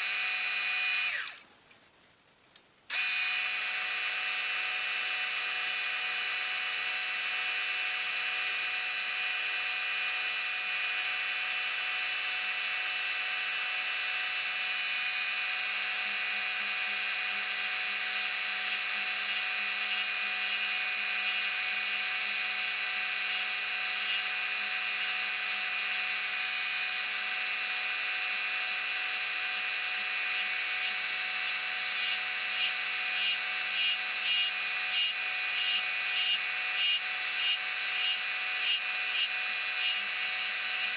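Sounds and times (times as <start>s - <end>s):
wood lathe running: 2.9s - 40.9s.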